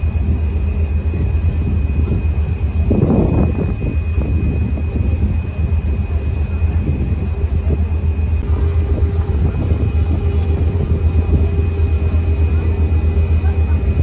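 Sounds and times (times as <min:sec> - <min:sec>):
low engine rumble: 0:00.0 - 0:14.0
thin high whine: 0:00.0 - 0:14.0.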